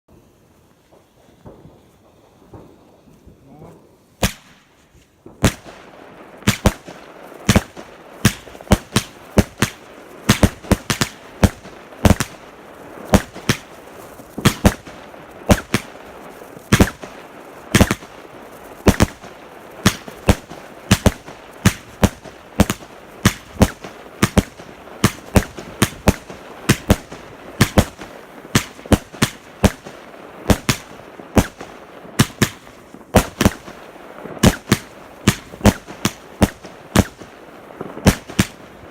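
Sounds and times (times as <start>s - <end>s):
fireworks bangs: 0.1s - 38.9s
steady crackling: 0.6s - 38.9s.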